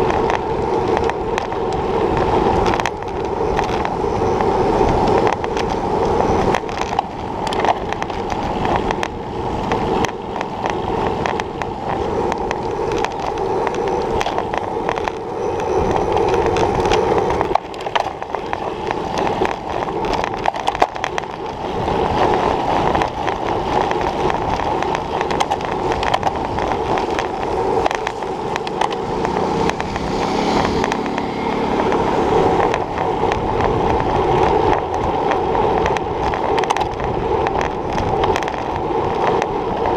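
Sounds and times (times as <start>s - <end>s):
bike rattles and clicks: 0.0s - 39.9s
tyre and road rumble: 0.0s - 39.9s
wind: 0.0s - 39.9s.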